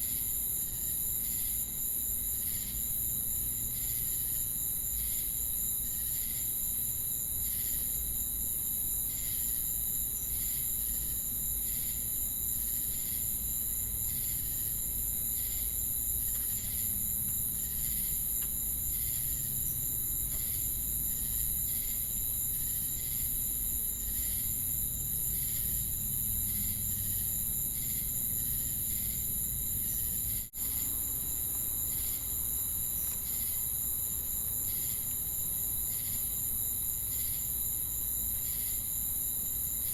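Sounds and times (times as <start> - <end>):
crickets and cicadas singing: 0.0 - 39.9.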